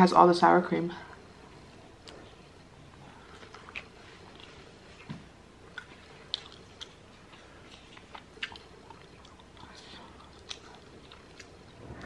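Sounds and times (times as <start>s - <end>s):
person chewing food: 1.1s - 12.0s.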